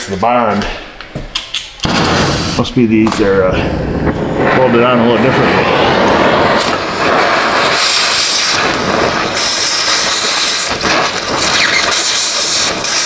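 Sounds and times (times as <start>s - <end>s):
cutting torch hissing: 1.9s - 13.0s.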